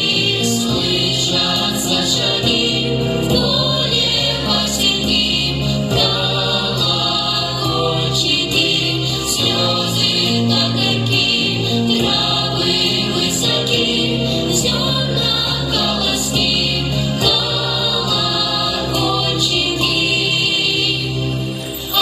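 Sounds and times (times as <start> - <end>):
music: 0.0 - 22.0
vocal group singing: 0.0 - 22.0.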